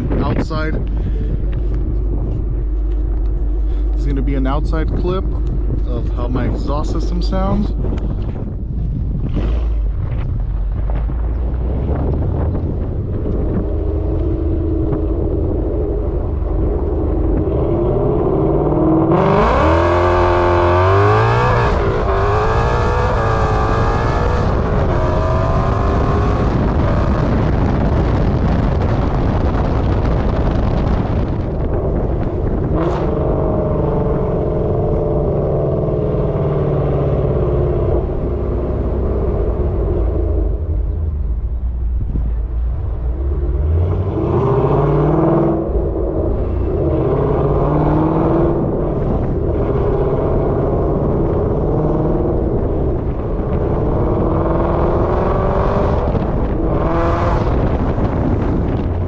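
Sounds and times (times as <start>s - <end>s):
engine rumbling and revving: 0.0s - 59.0s.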